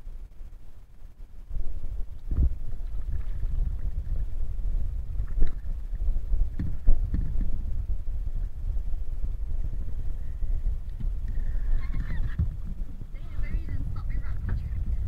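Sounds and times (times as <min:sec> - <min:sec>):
wind and water rumble on microphone: 0:00.0 - 0:15.0.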